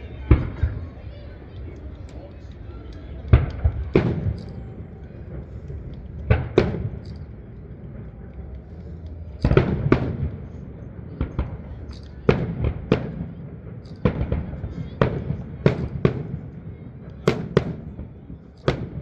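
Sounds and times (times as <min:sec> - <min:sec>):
fireworks bursting with bangs: 0:00.0 - 0:19.0.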